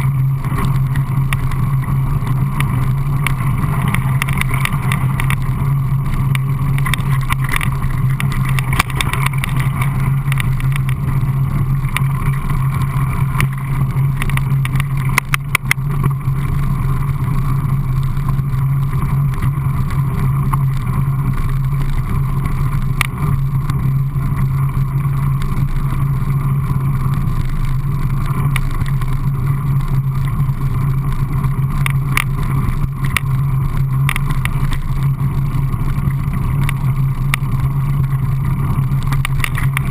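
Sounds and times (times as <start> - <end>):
bike rattling over bumps: 0.0 - 39.9
bike tyres humming on dirt: 0.0 - 39.9.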